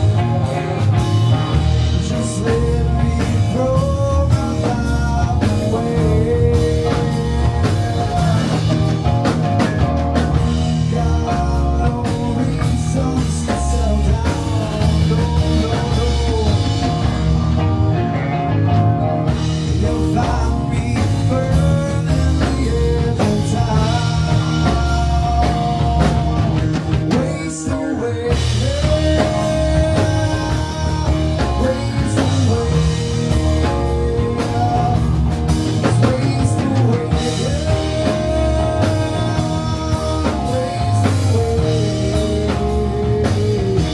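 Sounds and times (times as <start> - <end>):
person singing: 0.0 - 18.6, 19.2 - 43.9
drum kit: 0.0 - 43.9
electric guitar: 0.0 - 43.9.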